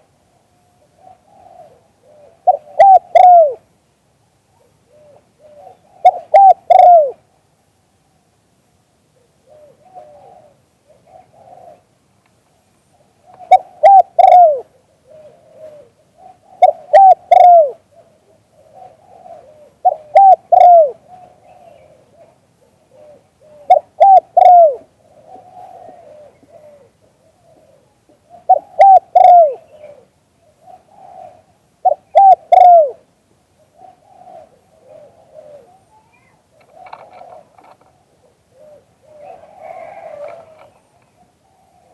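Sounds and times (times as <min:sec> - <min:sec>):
dove cooing: 0:00.0 - 0:03.7, 0:04.5 - 0:07.2, 0:09.1 - 0:12.0, 0:12.9 - 0:41.9.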